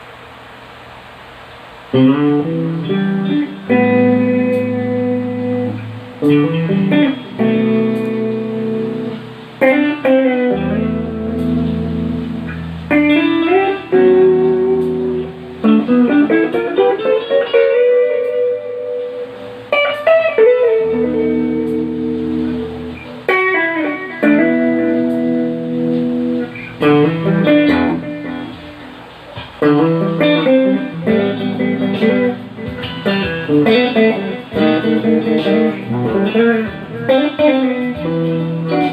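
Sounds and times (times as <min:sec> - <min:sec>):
solo guitar playing: 0:01.9 - 0:38.9.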